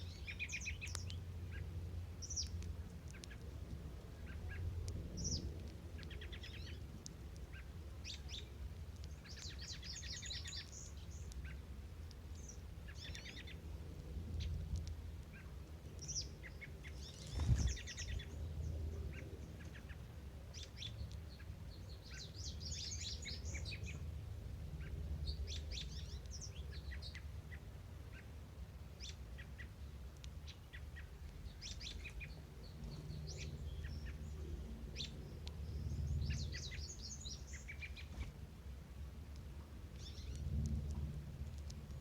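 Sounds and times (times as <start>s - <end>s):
songbirds singing: 0.0s - 42.0s
steady low rumble: 0.0s - 42.0s.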